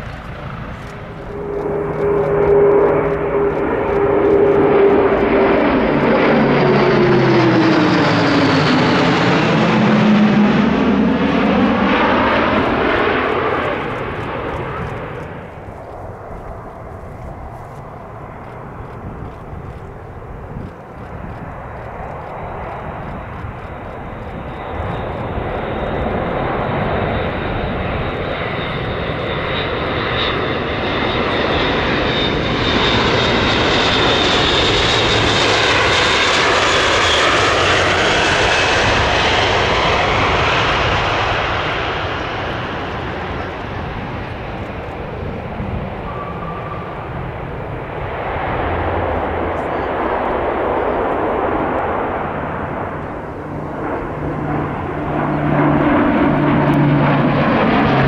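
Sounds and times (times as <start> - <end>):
steady high whine: 0.0 - 58.0
turboprop aircraft flying past: 0.0 - 58.0.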